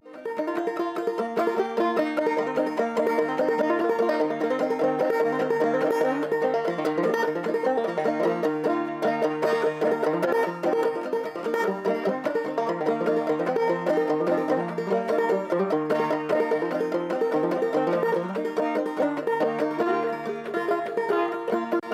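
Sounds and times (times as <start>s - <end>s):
banjo picking a tune: 0.0s - 21.9s.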